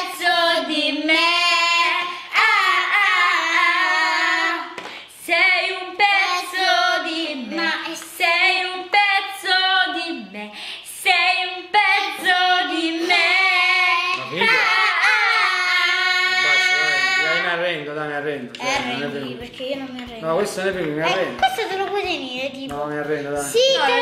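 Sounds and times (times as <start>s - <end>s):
girls singing unaccompanied: 0.0s - 17.6s, 18.5s - 24.0s.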